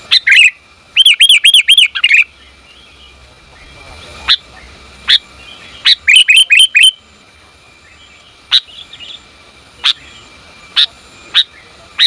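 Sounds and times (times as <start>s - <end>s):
bird calling sharp notes: 0.1s - 7.0s, 7.8s - 12.0s.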